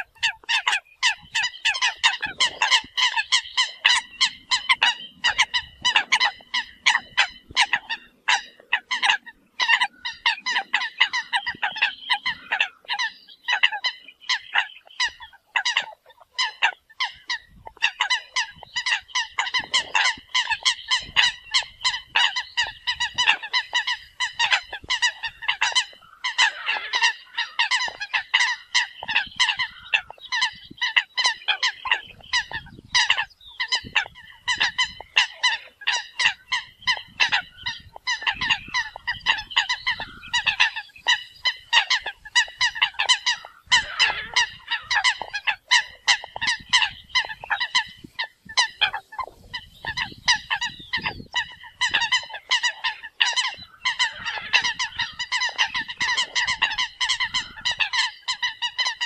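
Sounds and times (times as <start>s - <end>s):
flock of coots calling: 0.0s - 59.0s.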